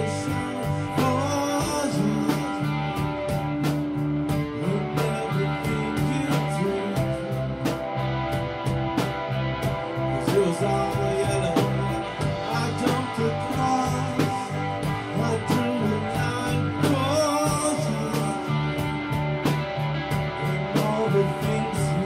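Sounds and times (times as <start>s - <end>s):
drum kit beat: 0.0s - 22.0s
electric bass: 0.0s - 22.0s
electric guitar: 0.0s - 22.0s.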